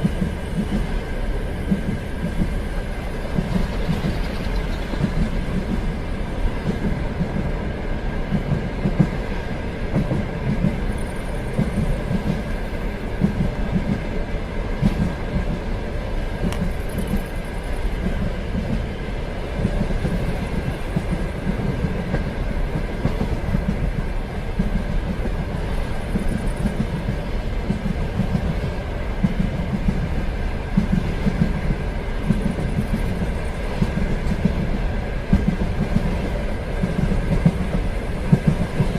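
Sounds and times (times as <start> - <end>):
train rumbling on tracks: 0.0 - 38.9.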